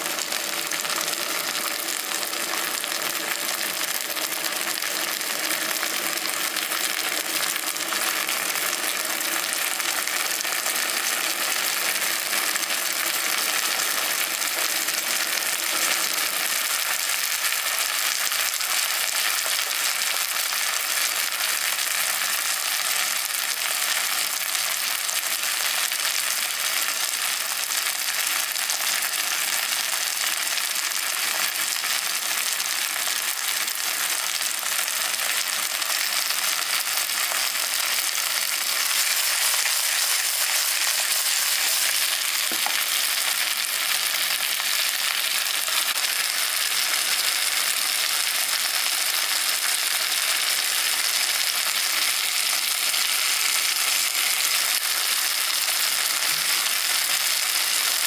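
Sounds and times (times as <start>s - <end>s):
vegetables sizzling in a pan: 0.0s - 58.0s.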